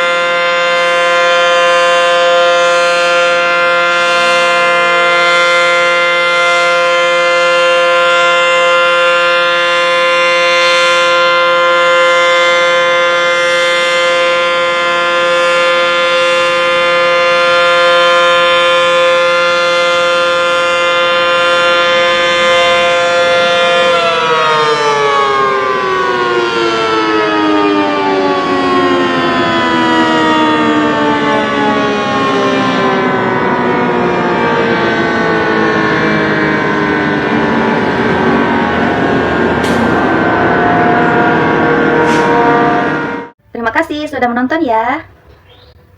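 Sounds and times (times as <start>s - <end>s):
warning siren winding down: 0.0s - 45.9s.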